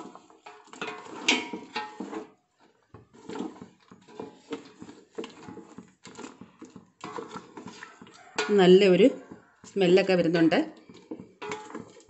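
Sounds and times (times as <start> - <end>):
spatula scraping steel pot: 0.0 - 12.0.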